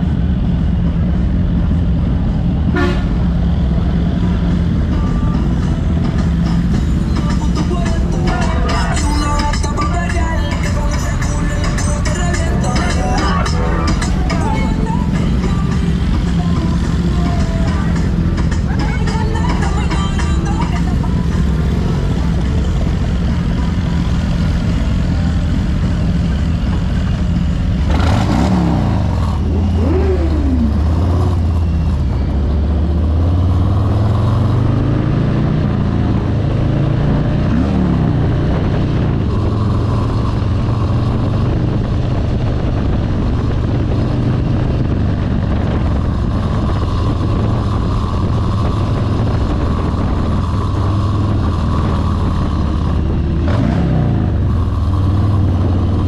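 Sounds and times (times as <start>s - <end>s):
motorcycle engine revving: 0.0s - 56.0s
motorcycle engine running: 0.0s - 56.0s.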